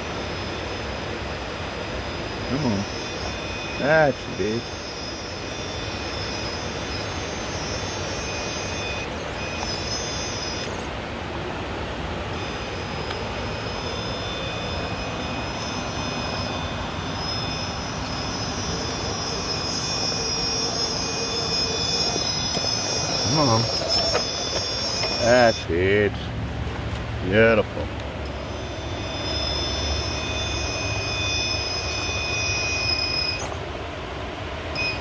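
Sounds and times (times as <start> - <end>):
electric motor whining: 0.0 - 10.9, 12.2 - 25.8, 28.0 - 33.6
rushing background noise: 0.0 - 35.0.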